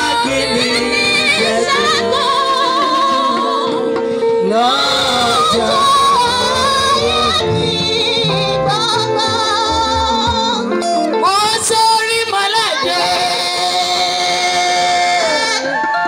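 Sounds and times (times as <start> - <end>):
live band backing: 0.0 - 16.0
woman singing through microphone: 0.0 - 16.0.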